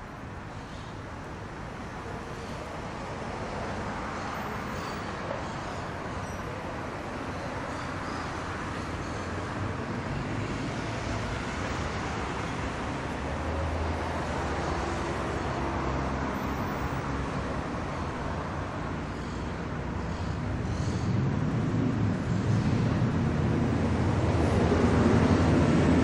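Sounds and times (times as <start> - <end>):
passing cars: 0.0 - 26.0.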